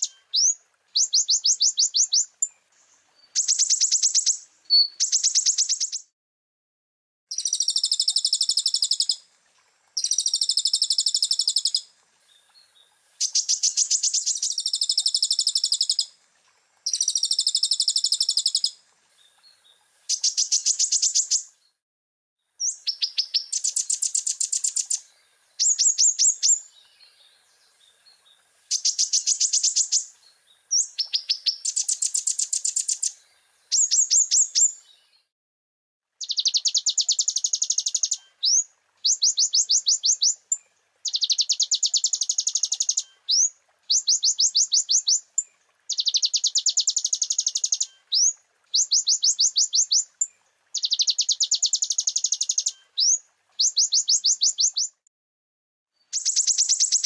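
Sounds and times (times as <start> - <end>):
sunbird singing high trills: 0.0 - 6.1, 7.3 - 9.2, 10.0 - 11.9, 12.5 - 16.2, 16.8 - 21.6, 22.6 - 35.3, 36.2 - 55.0, 56.0 - 57.0.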